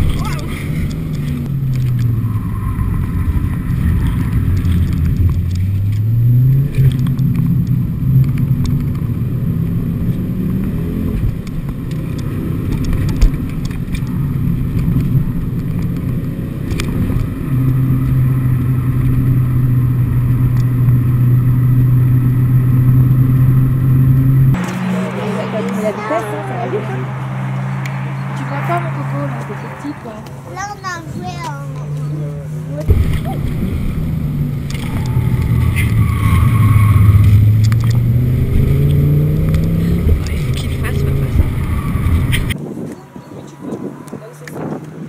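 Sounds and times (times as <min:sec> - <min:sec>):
car engine revving in cabin: 0:00.0 - 0:45.0.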